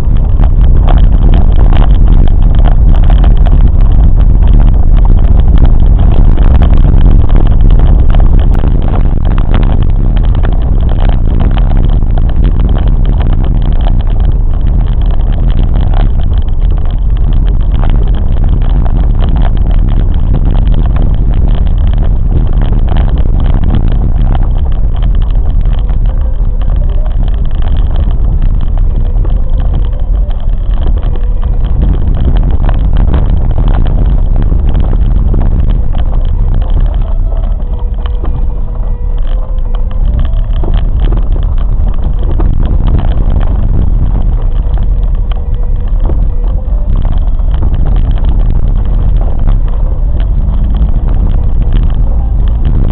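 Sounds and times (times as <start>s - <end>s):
faint whining tones: 0.0s - 52.9s
train rumbling and rattling: 0.0s - 52.9s.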